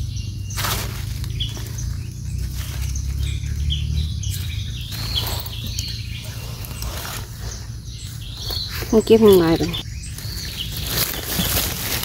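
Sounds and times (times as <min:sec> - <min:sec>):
bird chirps: 0:00.0 - 0:12.0
rustling through leaf litter: 0:00.0 - 0:12.0.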